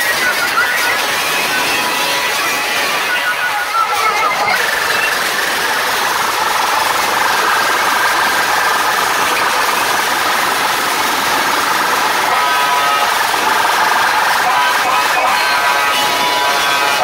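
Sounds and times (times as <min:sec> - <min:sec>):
overloaded loud music drone: 0:00.0 - 0:17.0.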